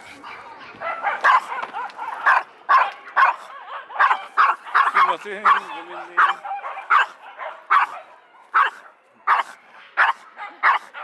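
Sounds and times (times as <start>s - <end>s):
small dog barking: 0.8s - 11.0s.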